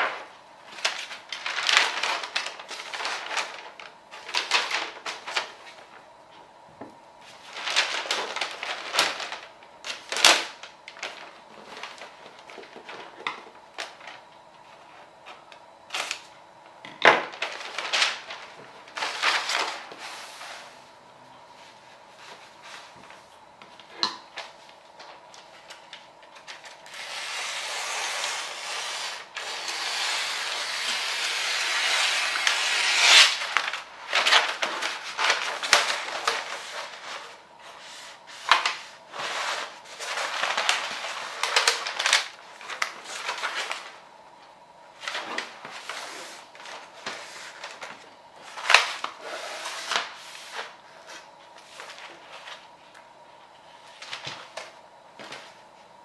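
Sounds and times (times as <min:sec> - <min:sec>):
paper crinkling and crackling: 0:00.0 - 0:06.1, 0:07.2 - 0:16.4, 0:17.1 - 0:20.4, 0:21.7 - 0:27.1, 0:32.1 - 0:44.0, 0:45.0 - 0:56.0
wrapping paper rustling: 0:00.0 - 0:44.2, 0:44.9 - 0:56.0.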